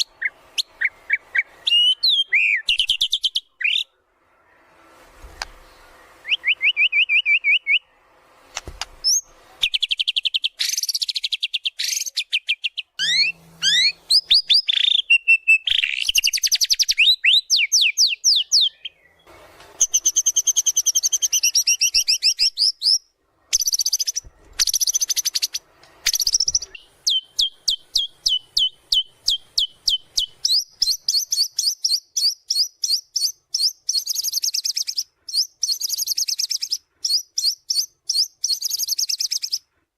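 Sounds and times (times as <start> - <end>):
bird singing whistles and trills: 0.0 - 3.9, 6.2 - 7.9, 9.0 - 39.6.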